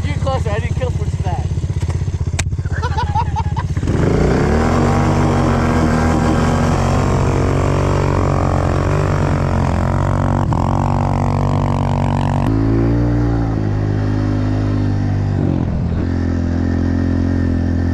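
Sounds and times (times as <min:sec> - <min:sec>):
motorbike engine running: 0:00.0 - 0:17.9.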